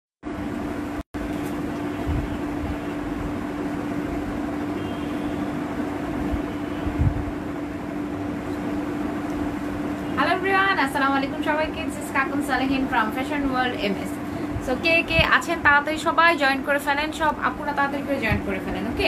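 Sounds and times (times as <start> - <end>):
mechanical hum: 0.2 - 19.0.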